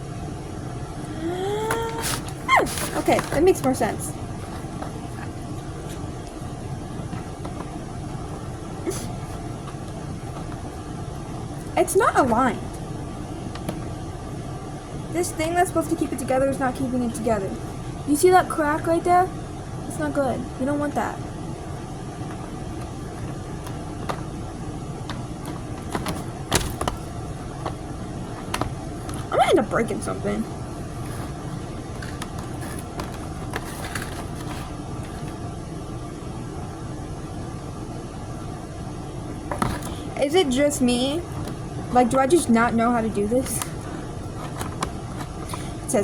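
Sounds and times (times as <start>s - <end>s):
low machine rumble: 0.0s - 46.0s
low steady hum: 0.0s - 46.0s.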